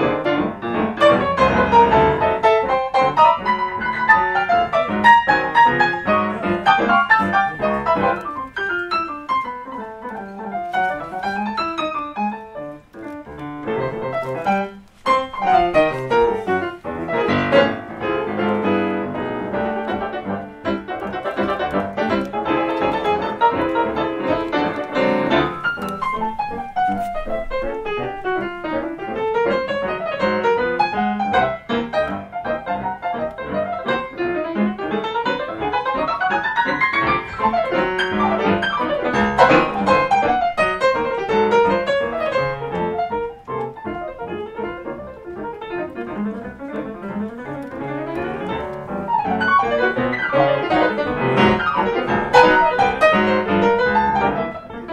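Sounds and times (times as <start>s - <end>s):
jazz piano duet: 0.0s - 54.9s.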